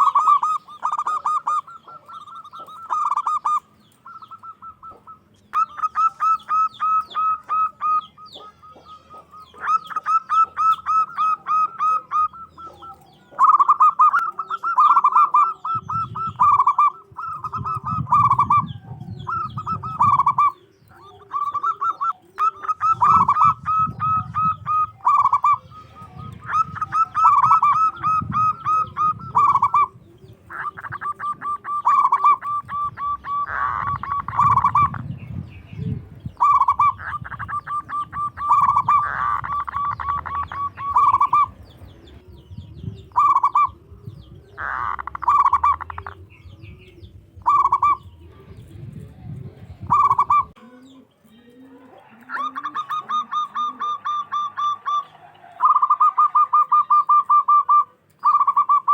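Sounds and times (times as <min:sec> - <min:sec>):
dove calling in rapid clipped notes: 0:00.0 - 0:58.9
soft low dove coos: 0:00.0 - 0:58.9.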